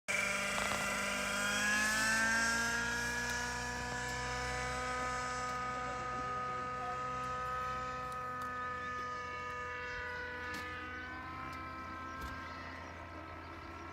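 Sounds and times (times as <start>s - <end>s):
model helicopter engine whine: 0.1s - 13.9s.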